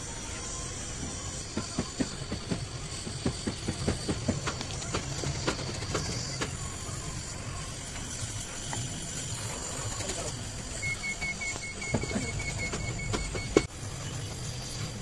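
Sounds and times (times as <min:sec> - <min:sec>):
welding torch hissing: 0:00.0 - 0:12.5.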